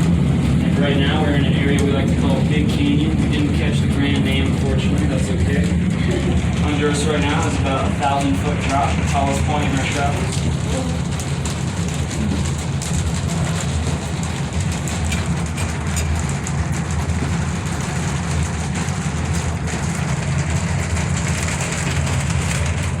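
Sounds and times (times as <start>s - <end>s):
heavy rain pelting tram car: 0.0s - 23.0s
low rumble of moving car: 0.0s - 23.0s.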